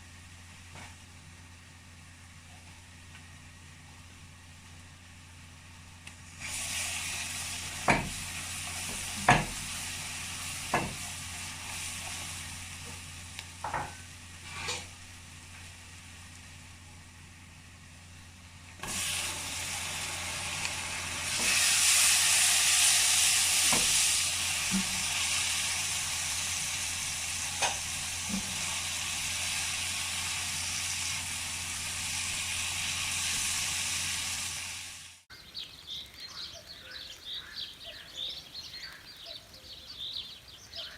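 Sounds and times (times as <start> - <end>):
food sizzling in a pot: 4.9 - 40.9.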